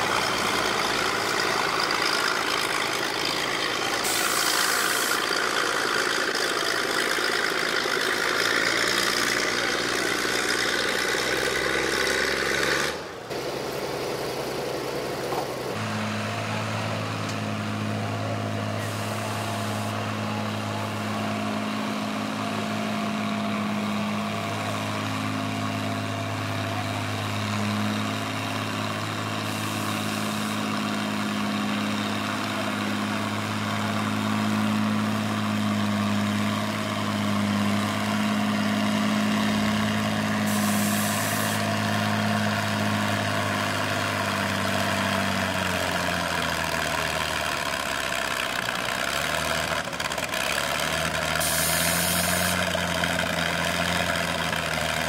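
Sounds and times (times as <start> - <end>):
tractor engine under heavy load: 0.0 - 55.0.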